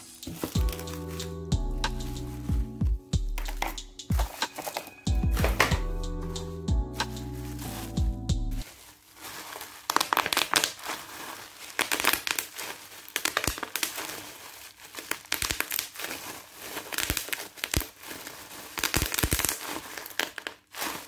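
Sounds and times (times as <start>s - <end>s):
bubble wrap crinkling: 0.0s - 21.0s.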